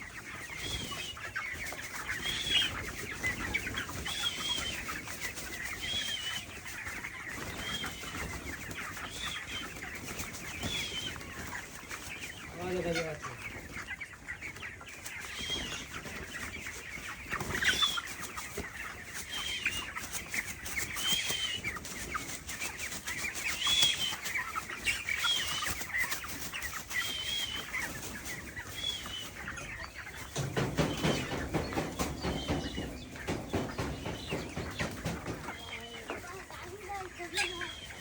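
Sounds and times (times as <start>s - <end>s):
chickens chirping and clucking: 0.0s - 38.0s
high-pitched chicken calls: 0.0s - 38.0s
wings flapping and rustling: 0.1s - 38.0s.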